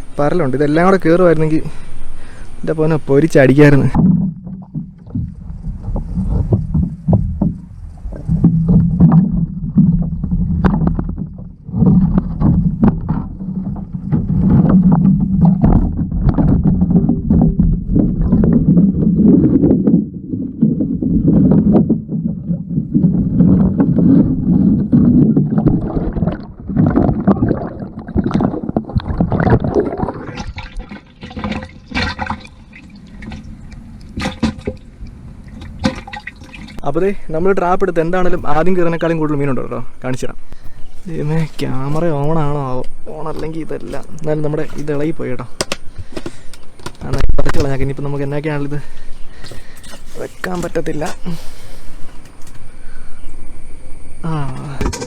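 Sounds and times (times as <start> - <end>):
underwater river rumble: 0.0 - 55.0
small underwater clicks and knocks: 3.2 - 36.8, 40.1 - 52.7.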